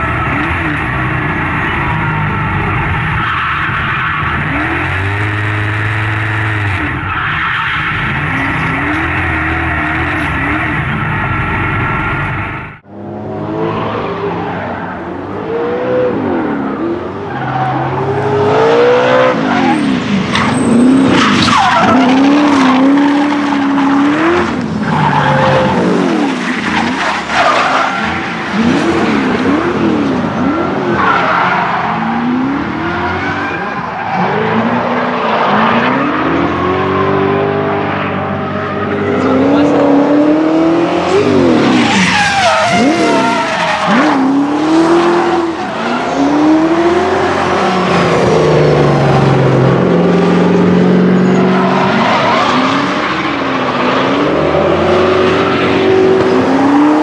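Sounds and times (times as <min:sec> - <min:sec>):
car engine revving: 0:00.0 - 0:14.4, 0:15.1 - 0:57.0
tyres skidding and squealing: 0:00.0 - 0:57.0.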